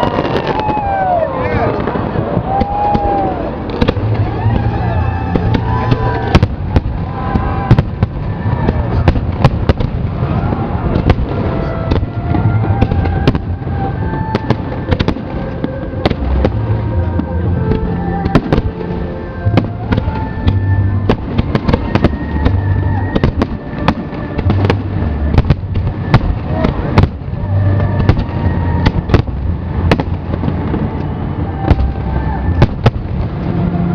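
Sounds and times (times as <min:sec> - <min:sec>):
fireworks bangs: 0:00.0 - 0:33.9.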